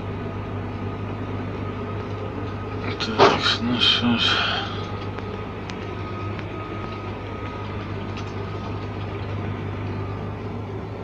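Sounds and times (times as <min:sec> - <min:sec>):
harvester engine running: 0:00.0 - 0:11.0.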